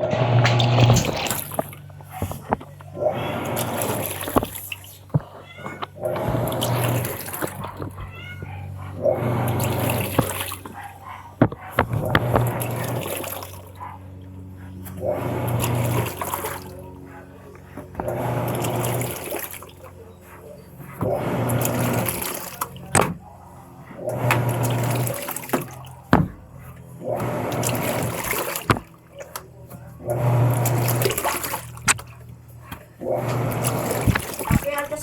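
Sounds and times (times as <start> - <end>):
washing machine motor hum: 0.0 - 35.0
water sloshing in tub: 0.0 - 35.0.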